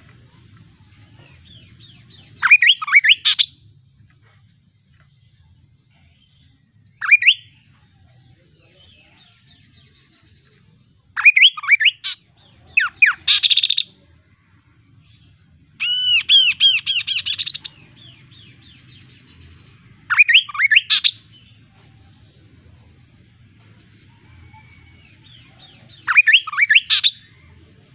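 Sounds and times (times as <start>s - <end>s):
bird singing sweeping notes: 0.9s - 3.6s, 6.0s - 7.9s, 8.7s - 14.1s, 15.0s - 27.6s.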